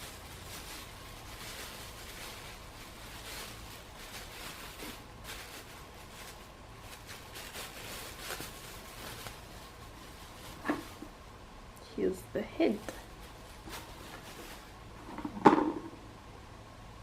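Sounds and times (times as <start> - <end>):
plastic packaging crinkling: 0.0 - 11.2, 12.7 - 15.8.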